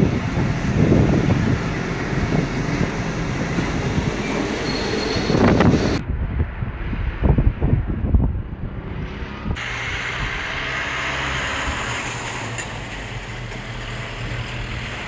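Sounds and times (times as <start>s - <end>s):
steady rushing wind: 0.0s - 13.4s
storm wind buffeting microphone: 0.0s - 13.4s.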